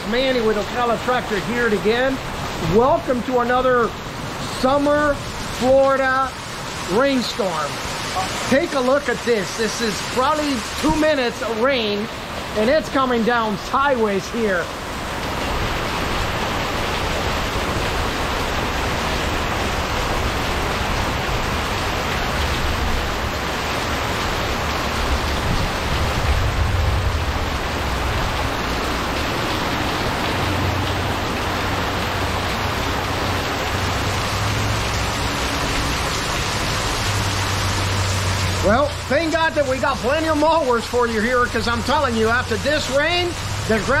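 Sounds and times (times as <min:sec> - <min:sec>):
heavy rain pouring: 0:00.0 - 0:44.0.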